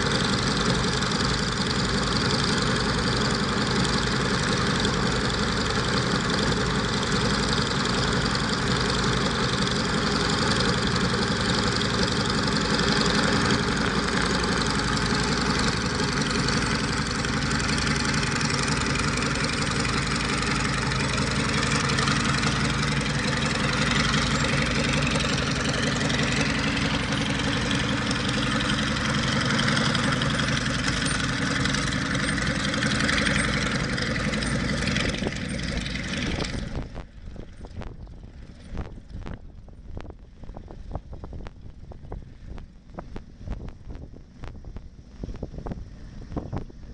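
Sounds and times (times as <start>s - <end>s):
aircraft piston engine running: 0.0s - 46.9s.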